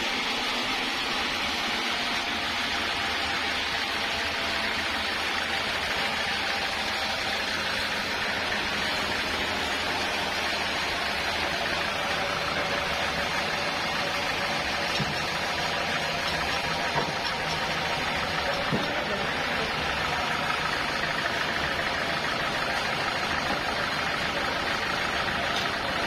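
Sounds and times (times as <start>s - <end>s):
faint engine hum: 0.0s - 26.0s.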